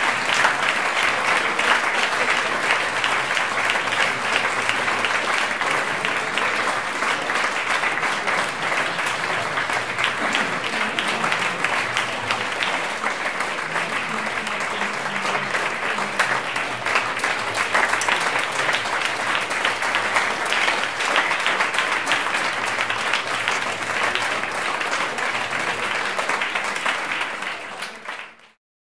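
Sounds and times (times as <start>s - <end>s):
audience applauding: 0.0s - 28.6s.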